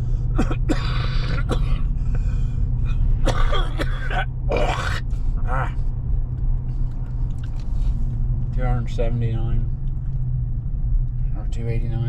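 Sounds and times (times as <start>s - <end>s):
pickup truck engine droning: 0.0s - 12.0s.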